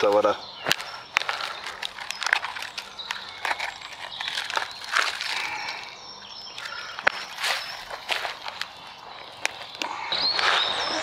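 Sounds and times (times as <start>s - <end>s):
faint bird chirps: 0.0s - 11.0s
rustling of forest litter: 0.0s - 11.0s.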